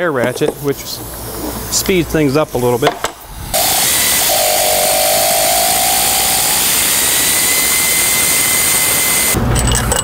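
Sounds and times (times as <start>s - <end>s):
air ratchet hissing and whining: 0.6s - 9.4s.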